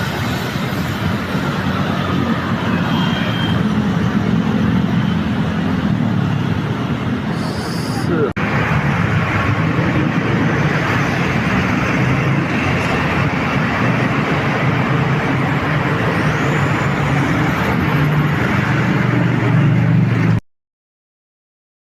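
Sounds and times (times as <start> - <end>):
heavy vehicle engine hum: 0.0 - 20.4
roadside traffic noise: 0.0 - 20.4.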